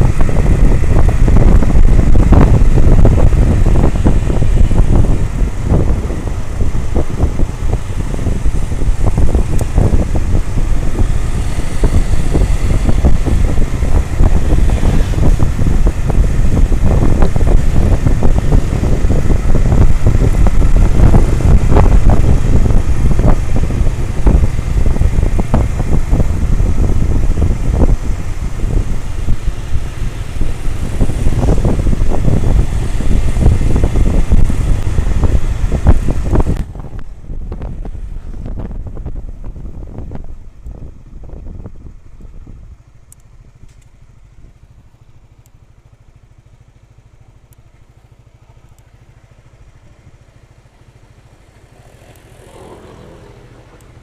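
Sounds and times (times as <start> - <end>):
wind buffeting microphone: 0.0 - 44.8
motorcycle engine running: 0.0 - 54.0.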